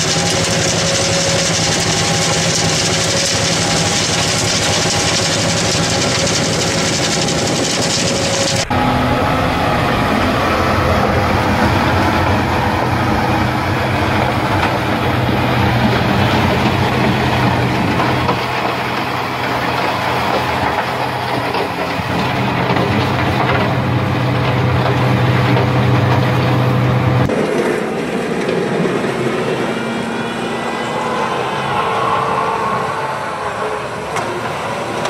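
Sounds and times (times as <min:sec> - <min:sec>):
wheel loader engine pushing snow: 0:00.0 - 0:29.5
snowblower blowing snow: 0:00.0 - 0:29.6.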